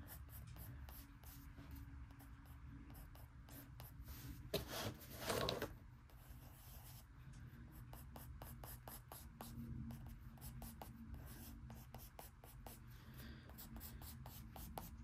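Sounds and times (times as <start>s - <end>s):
pencil scratching on paper: 0.0s - 5.0s, 6.1s - 7.0s, 7.7s - 12.8s, 13.5s - 15.0s.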